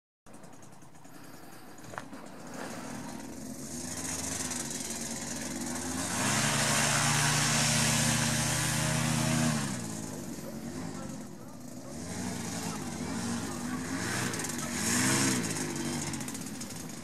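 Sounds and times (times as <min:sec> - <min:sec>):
paramotor engine and propeller: 0:00.3 - 0:17.0.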